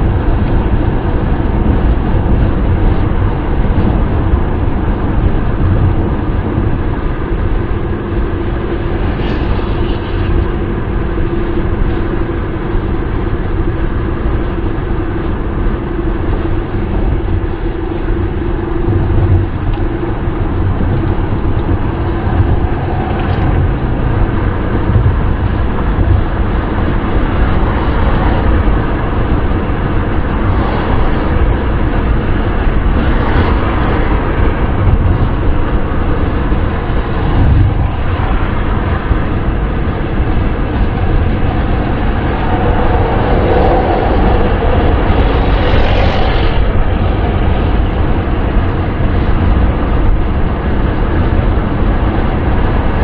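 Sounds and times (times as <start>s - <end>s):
car wind and road noise: 0.0s - 53.0s
faint steady drone: 0.0s - 53.0s.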